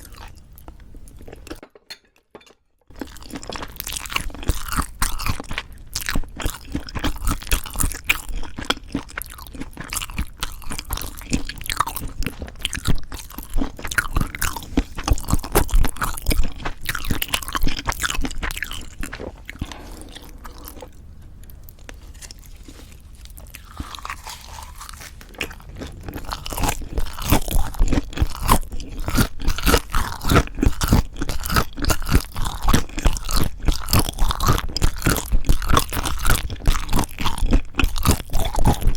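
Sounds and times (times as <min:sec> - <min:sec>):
chewing crunchy food: 0:00.0 - 0:01.6, 0:02.4 - 0:38.9.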